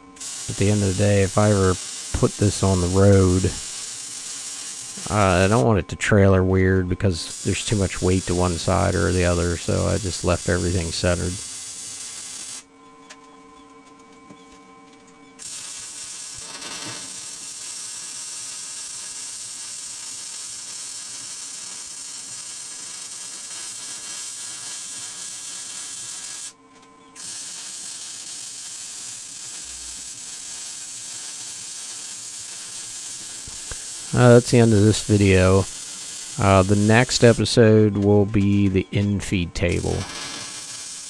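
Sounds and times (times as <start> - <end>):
arc welding hiss: 0.0 - 12.7, 15.4 - 41.0.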